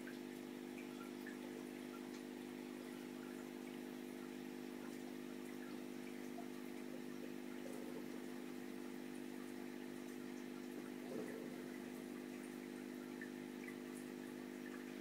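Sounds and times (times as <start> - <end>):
aquarium pump hum: 0.0 - 15.0
faint water trickle: 0.0 - 15.0.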